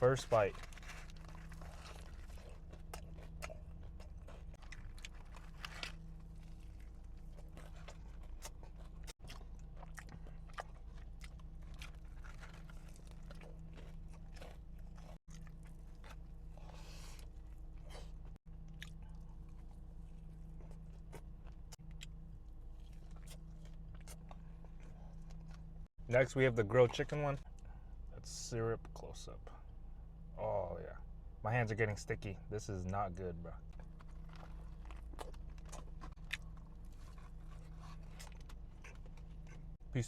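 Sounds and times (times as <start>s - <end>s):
biting and chewing crunchy food: 0.0s - 28.1s, 33.2s - 40.0s
steady low hum: 0.0s - 40.0s.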